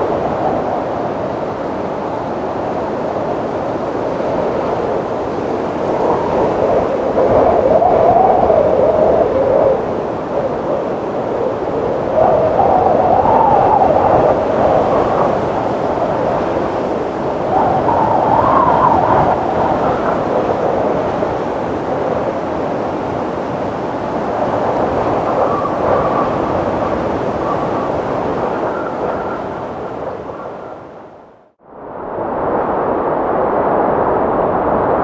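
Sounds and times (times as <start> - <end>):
howling wind: 0.0 - 35.0.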